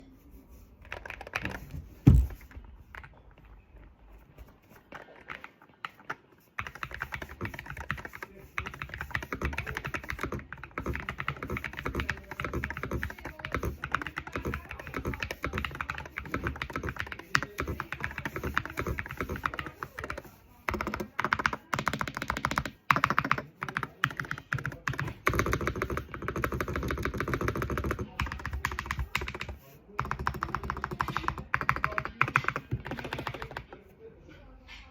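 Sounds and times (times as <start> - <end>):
fast keyboard typing: 0.8 - 3.5, 4.4 - 33.9.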